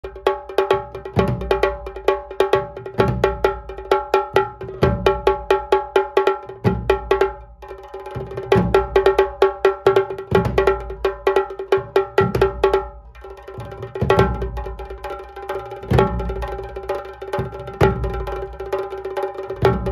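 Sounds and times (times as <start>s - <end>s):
deep drum beat: 0.0s - 19.9s.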